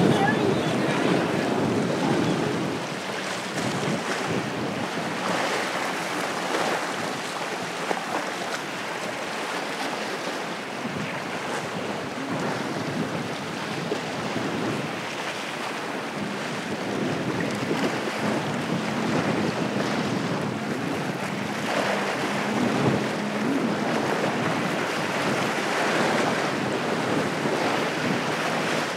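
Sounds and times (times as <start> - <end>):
faint low boat engine hum: 0.0 - 28.9
waves washing: 0.0 - 28.9
wind buffeting microphone: 0.0 - 28.9.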